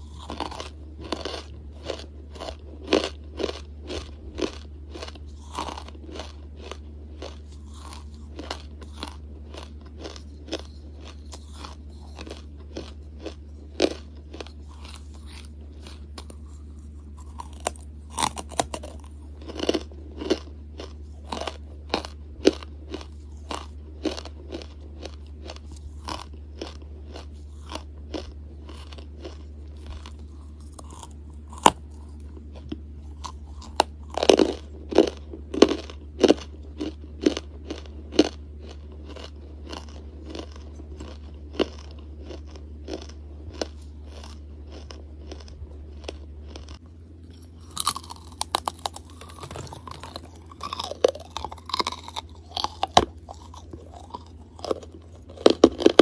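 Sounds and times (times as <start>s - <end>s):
charcoal crunching in teeth: 0.0s - 56.0s
steady low hum: 0.0s - 56.0s.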